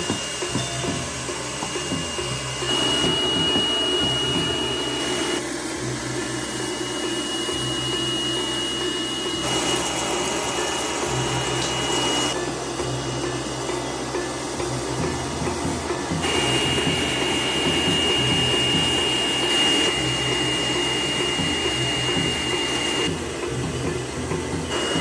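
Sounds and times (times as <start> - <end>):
power tool whining: 0.0 - 25.0.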